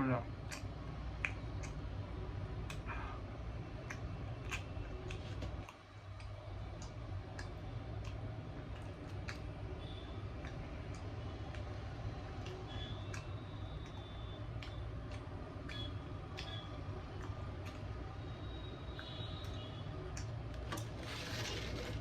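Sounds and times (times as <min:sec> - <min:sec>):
chewing clicks and smacks: 0:00.4 - 0:03.0, 0:03.6 - 0:21.0.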